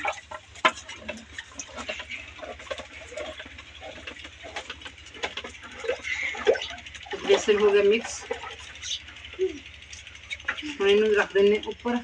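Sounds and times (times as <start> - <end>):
wooden churner clicking in pot: 0.0 - 12.0.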